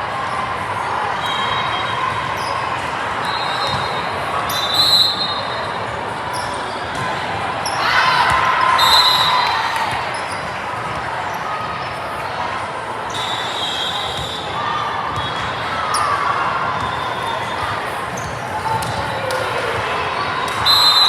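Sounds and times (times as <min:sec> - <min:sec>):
noise of people in hall: 0:00.0 - 0:21.0.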